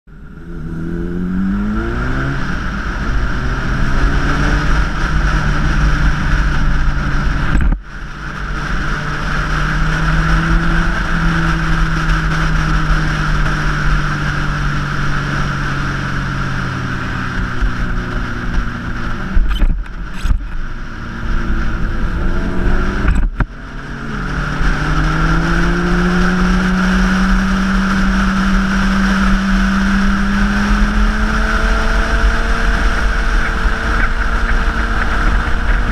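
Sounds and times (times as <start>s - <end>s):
small motorcycle engine at high revs: 0.2s - 35.9s.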